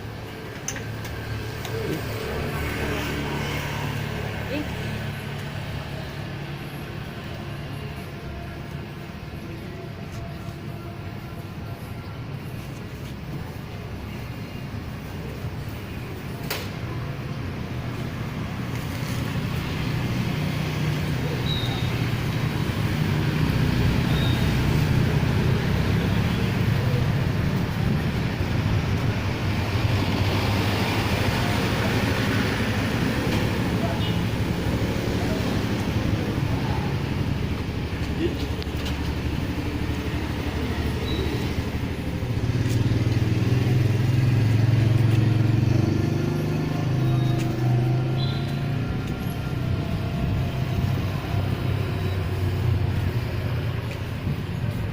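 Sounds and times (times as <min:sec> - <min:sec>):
road noise: 0:00.0 - 0:54.9
vehicle engine humming: 0:00.0 - 0:54.9.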